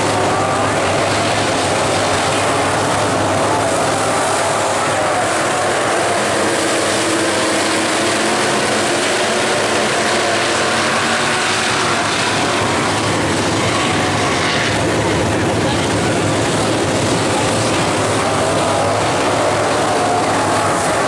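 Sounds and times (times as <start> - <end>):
race car engines at speed: 0.0 - 21.0.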